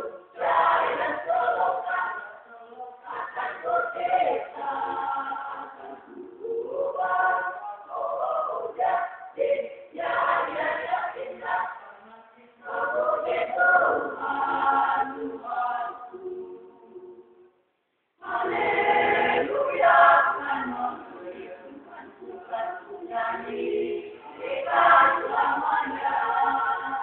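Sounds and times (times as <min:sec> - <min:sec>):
youth choir singing: 0:00.0 - 0:17.4, 0:18.2 - 0:27.0.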